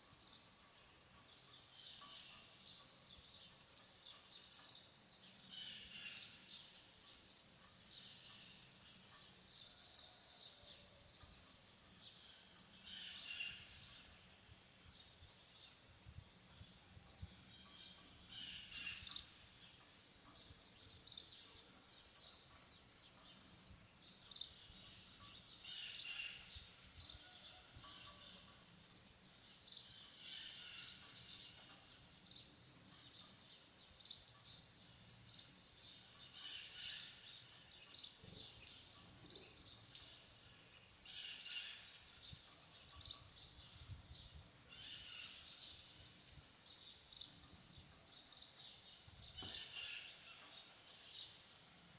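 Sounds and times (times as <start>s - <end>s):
faint steady hiss: 0.0s - 51.9s.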